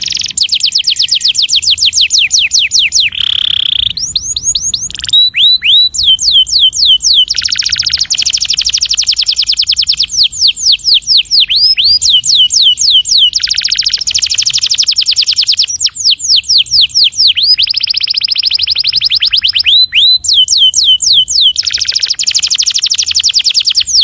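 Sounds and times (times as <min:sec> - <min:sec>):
canary singing: 0:00.0 - 0:24.0.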